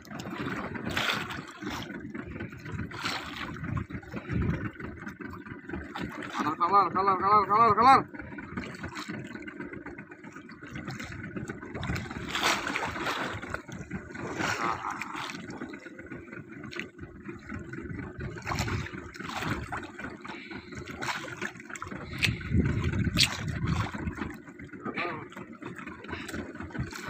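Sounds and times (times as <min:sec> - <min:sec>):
water sloshing against boat hull: 0:00.0 - 0:27.0.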